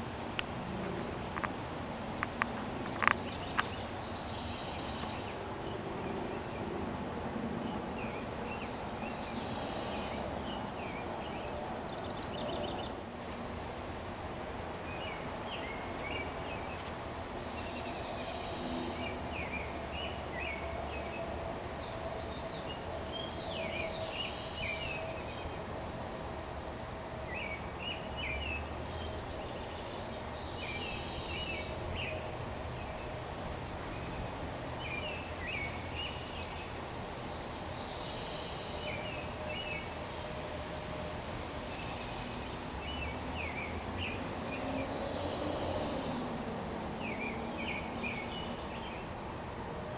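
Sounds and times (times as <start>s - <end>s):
songbirds singing and calling: 0.0s - 49.9s.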